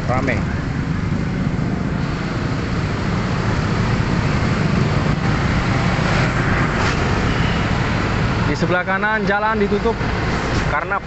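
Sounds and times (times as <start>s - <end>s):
motorcycle engines running: 0.0s - 11.0s
road noise: 0.0s - 11.0s.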